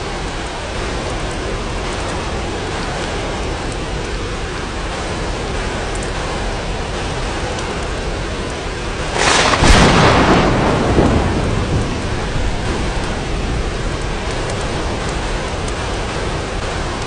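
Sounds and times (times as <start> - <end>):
steady rain falling: 0.0 - 17.0
thunder clap rumbling: 0.0 - 17.0.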